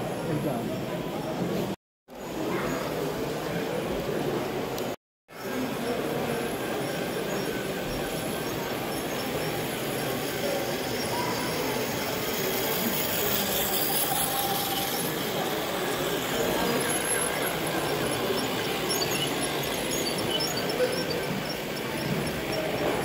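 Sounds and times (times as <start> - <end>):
toy trains running on plastic track: 2.2 - 23.0.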